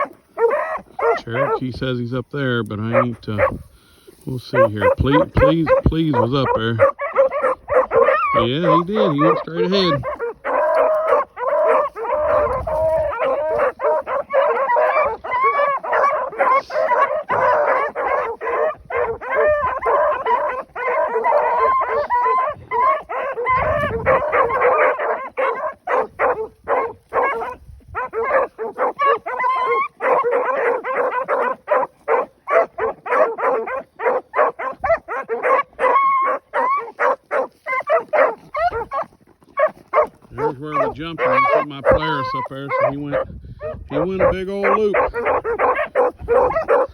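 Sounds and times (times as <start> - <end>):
dogs barking: 0.0 - 46.9.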